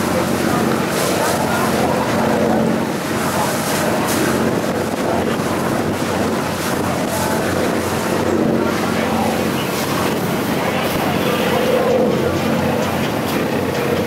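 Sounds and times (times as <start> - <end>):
boat engine humming: 0.0 - 14.0
water splashing along hull: 0.0 - 14.0
wind buffeting microphone: 0.0 - 14.0.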